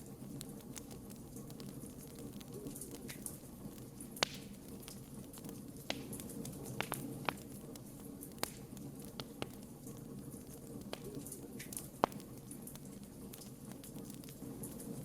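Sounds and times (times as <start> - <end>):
campfire crackling and popping: 0.0 - 15.0
flames burning: 0.0 - 15.0.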